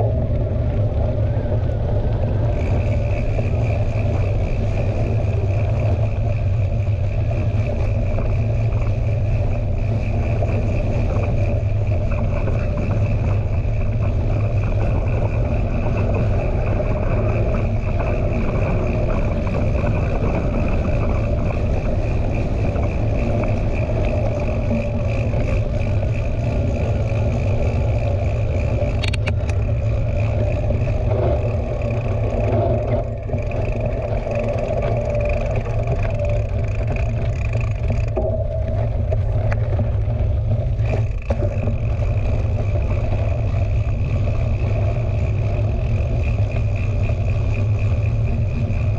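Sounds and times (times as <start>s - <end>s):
bike tyres rolling on dirt: 0.0s - 48.9s
wind buffeting camera: 0.0s - 48.9s.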